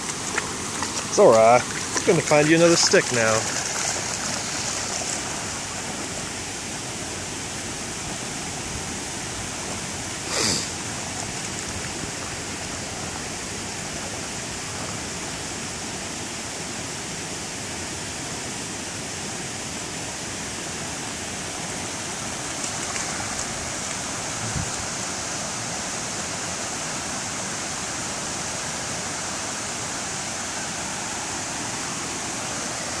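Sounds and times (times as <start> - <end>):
creek water rushing over rocks: 0.0 - 33.0.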